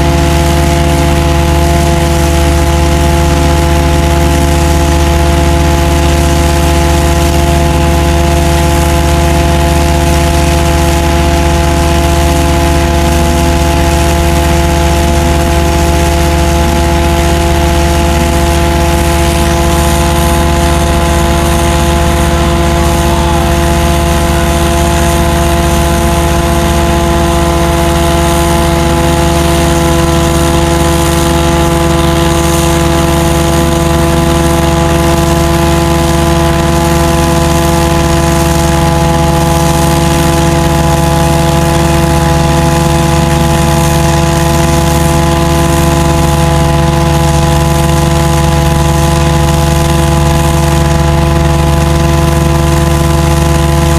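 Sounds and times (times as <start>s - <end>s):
constant whine: 0.0s - 53.9s
engine drone: 0.0s - 53.9s.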